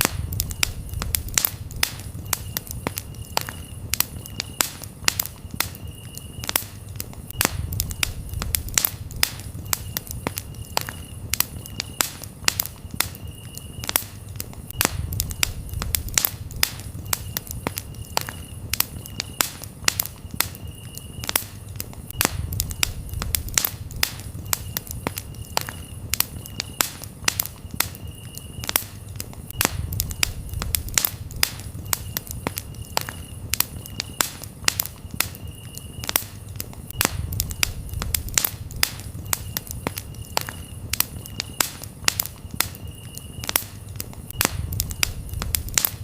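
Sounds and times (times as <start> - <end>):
campfire crackling and popping: 0.0 - 46.0
crickets chirping: 0.0 - 46.0.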